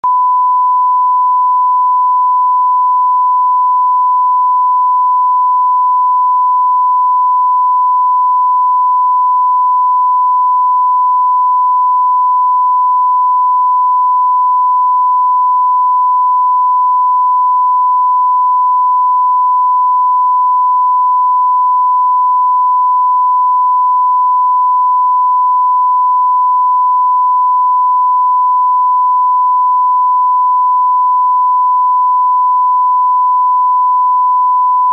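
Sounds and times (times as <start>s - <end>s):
sine test tone: 0.0s - 34.9s.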